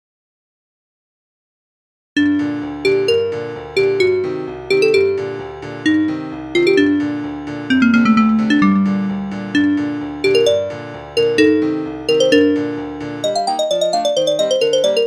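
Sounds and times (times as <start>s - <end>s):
piano ringtone melody: 2.2s - 15.0s.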